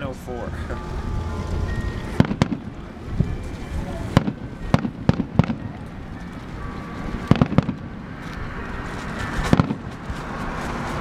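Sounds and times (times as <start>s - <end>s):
fireworks bangs: 0.0s - 10.9s.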